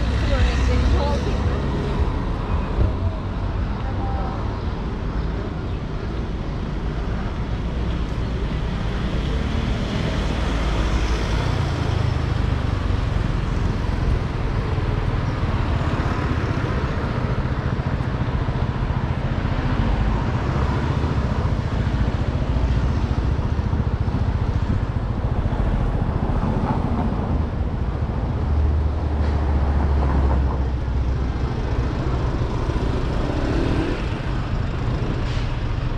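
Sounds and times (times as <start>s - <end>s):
cars passing with low rumble: 0.0s - 35.9s.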